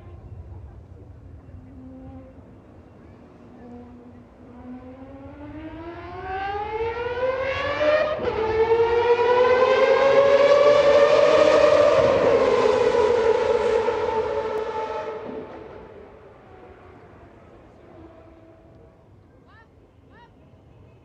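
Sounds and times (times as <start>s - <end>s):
race car engine wailing: 1.6s - 18.9s.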